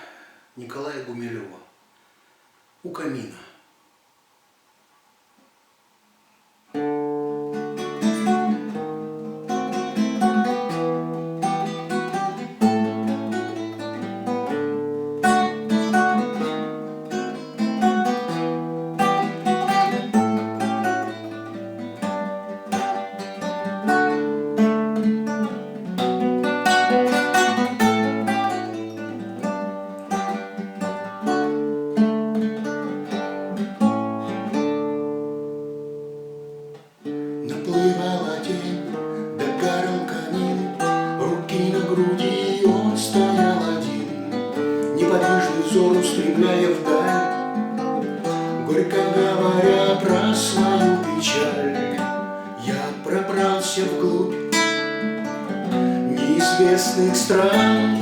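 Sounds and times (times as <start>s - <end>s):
acoustic guitar chords: 6.7s - 58.0s.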